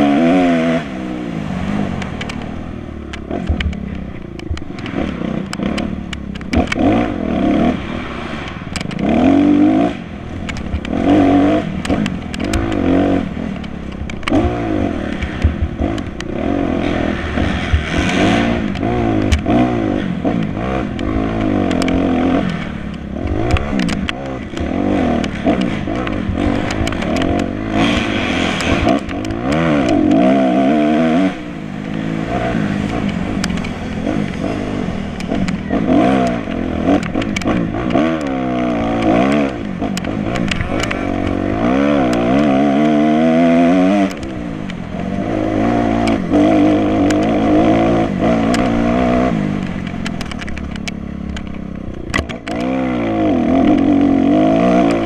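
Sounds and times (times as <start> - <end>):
dirt bike engine revving: 0.0 - 55.0
sharp clicks and clatter: 1.6 - 55.0.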